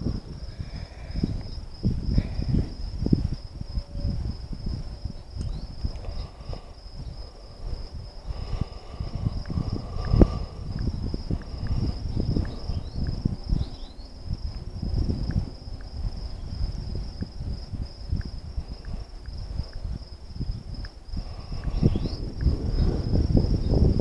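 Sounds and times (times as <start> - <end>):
crickets trilling: 0.0 - 24.0
low rumble: 0.0 - 24.0.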